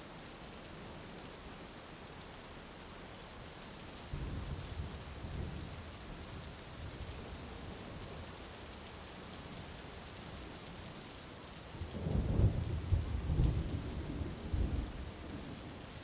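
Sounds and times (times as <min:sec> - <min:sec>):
heavy rain falling: 0:00.1 - 0:16.0.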